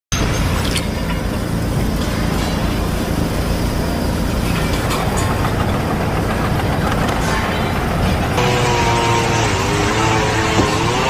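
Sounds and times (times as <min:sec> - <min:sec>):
diesel machinery engine running: 0:00.2 - 0:11.0.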